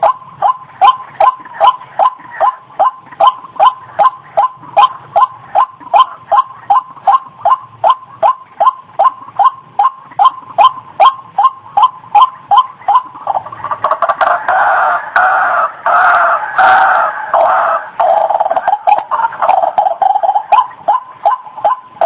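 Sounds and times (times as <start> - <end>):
waterhen calling: 0.0 - 22.0.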